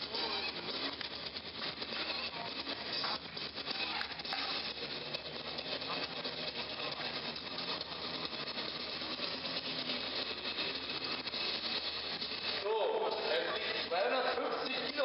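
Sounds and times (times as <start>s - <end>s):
sports hall background noise: 0.0s - 15.0s.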